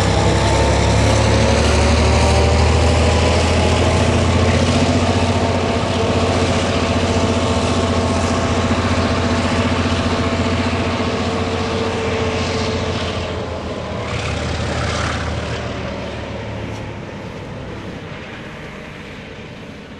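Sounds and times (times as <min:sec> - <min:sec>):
locomotive diesel engines droning: 0:00.0 - 0:19.9.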